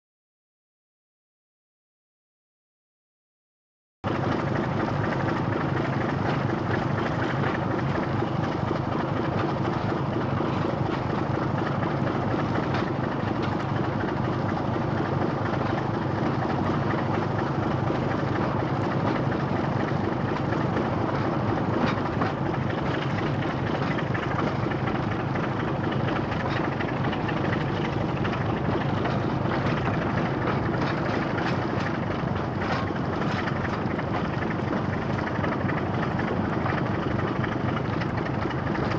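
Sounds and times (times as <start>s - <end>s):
diesel locomotive engines running: 4.0s - 38.9s.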